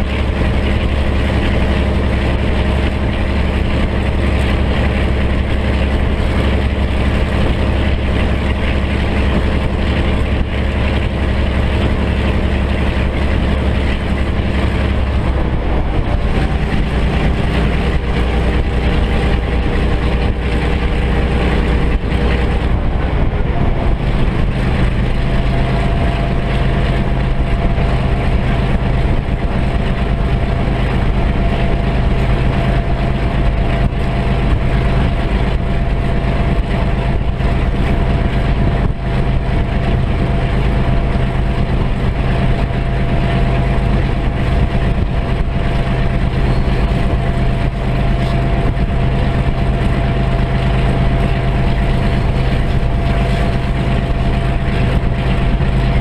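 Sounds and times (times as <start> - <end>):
diesel locomotive engine running: 0.0 - 56.0
steady whine: 0.0 - 56.0.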